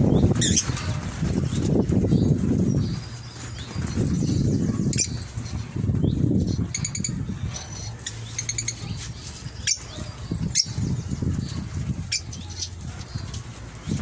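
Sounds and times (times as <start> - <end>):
lovebirds chirping: 0.0 - 14.0
wings fluttering: 0.0 - 14.0.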